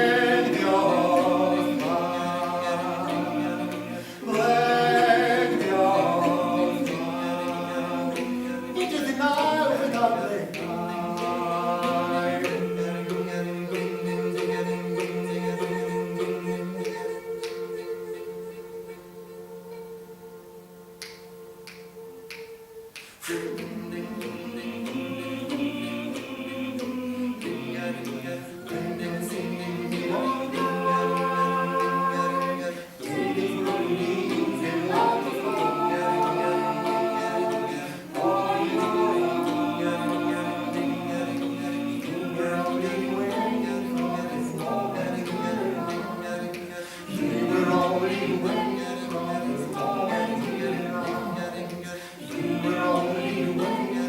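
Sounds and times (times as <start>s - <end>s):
a cappella vocal ensemble: 0.0s - 54.0s.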